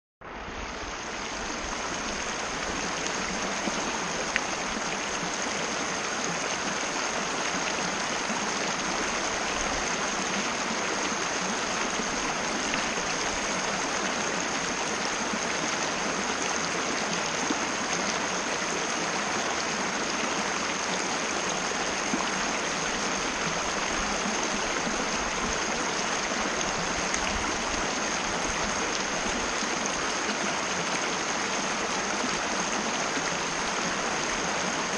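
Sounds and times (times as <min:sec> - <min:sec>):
river water rushing: 0:00.2 - 0:34.9.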